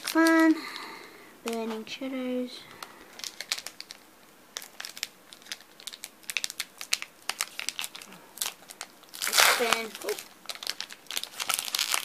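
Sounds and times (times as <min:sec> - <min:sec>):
foil wrapper crinkling: 0:00.0 - 0:01.8, 0:02.7 - 0:12.0
sharp foil crackles: 0:00.0 - 0:01.8, 0:02.8 - 0:12.0.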